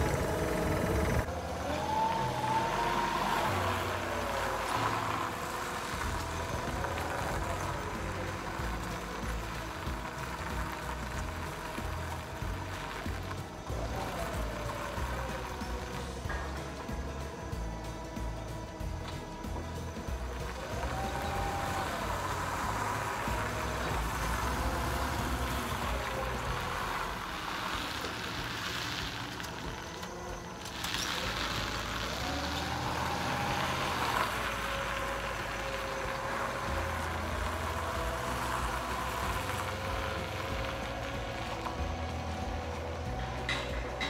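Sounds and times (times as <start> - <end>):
forklift engine revving: 0.0 - 44.0.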